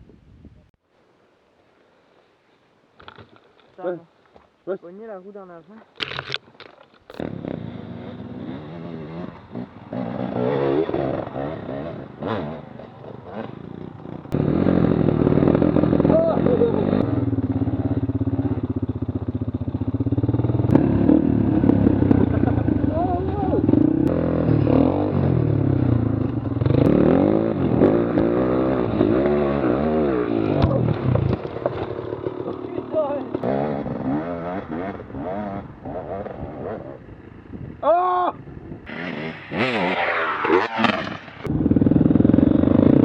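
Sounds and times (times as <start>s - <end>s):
dirt bike engine revving: 7.1s - 37.8s, 38.4s - 43.0s.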